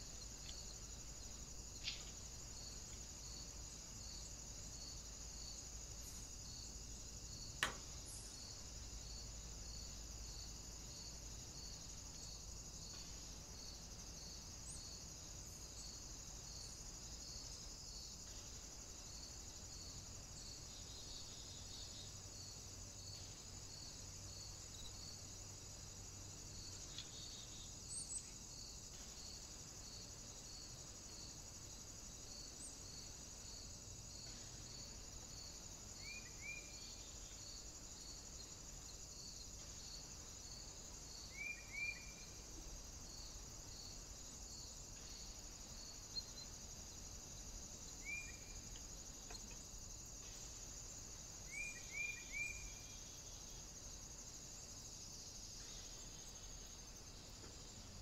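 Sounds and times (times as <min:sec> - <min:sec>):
high insect chirp: 0:00.0 - 0:58.0
high insect drone: 0:00.0 - 0:58.0.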